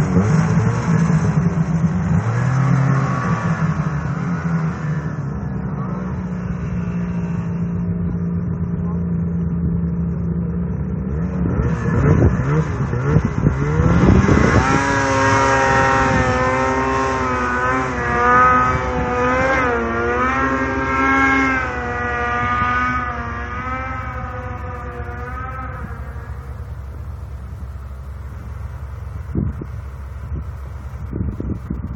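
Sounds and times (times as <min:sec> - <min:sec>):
snowmobile engine revving: 0:00.0 - 0:09.2, 0:10.9 - 0:31.9.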